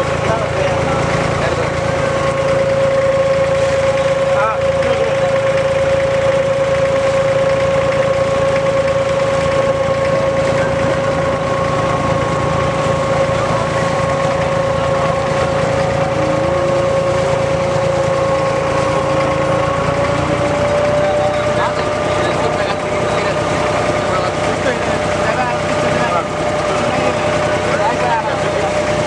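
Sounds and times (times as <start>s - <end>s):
boat diesel engine droning: 0.0s - 29.0s
engine whine: 0.0s - 29.0s.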